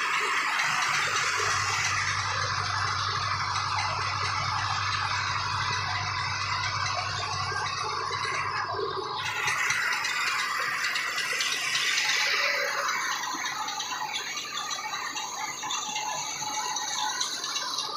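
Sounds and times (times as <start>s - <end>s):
rice mill rattling: 0.0s - 17.9s.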